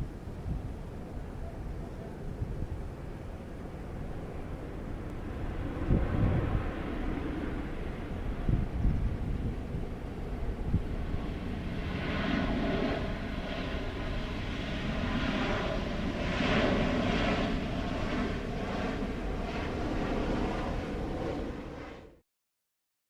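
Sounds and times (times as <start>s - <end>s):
airliner engines running: 0.0s - 22.2s.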